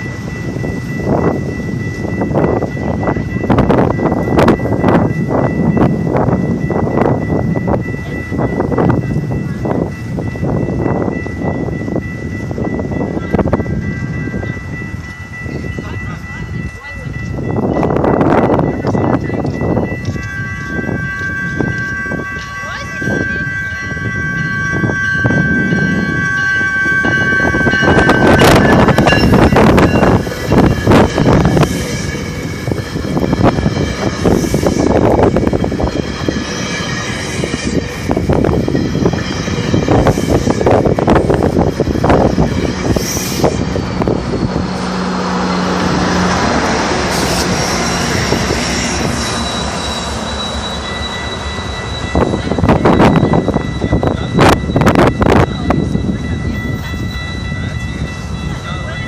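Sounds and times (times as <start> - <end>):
train clattering past: 0.0 - 59.0
thin high-pitched tones: 6.8 - 59.0.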